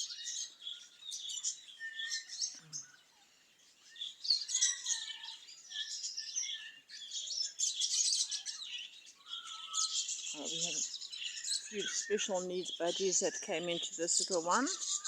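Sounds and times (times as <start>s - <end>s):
flock of birds chirping: 0.0s - 15.0s.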